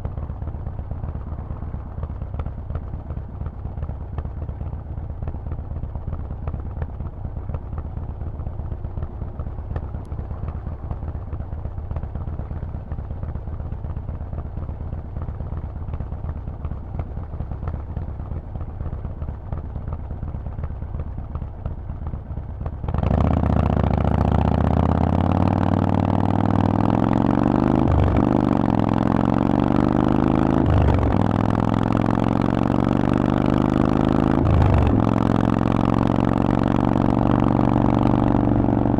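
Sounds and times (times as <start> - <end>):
motorcycle engine rumbling and revving: 0.0 - 38.9.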